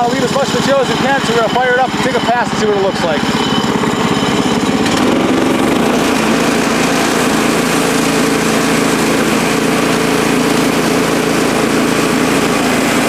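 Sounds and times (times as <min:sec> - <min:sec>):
band saw cutting wood: 0:00.0 - 0:13.0
sawmill engine running: 0:00.0 - 0:13.0.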